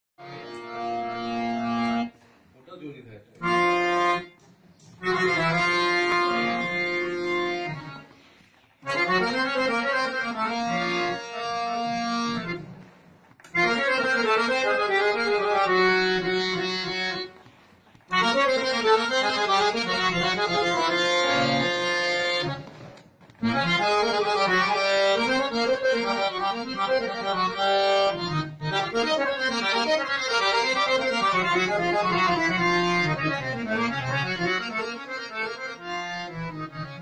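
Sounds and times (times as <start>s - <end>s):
harmonium playing: 0.2s - 2.5s, 3.3s - 37.0s.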